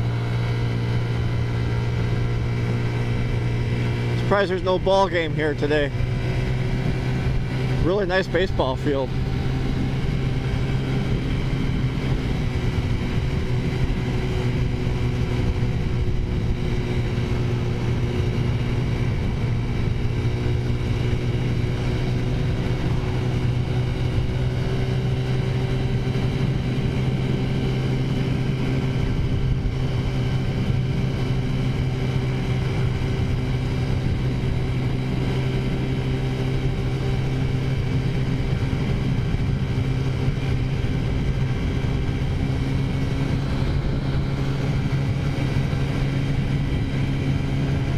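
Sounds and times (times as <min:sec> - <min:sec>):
scooter engine running steadily: 0:00.0 - 0:47.9.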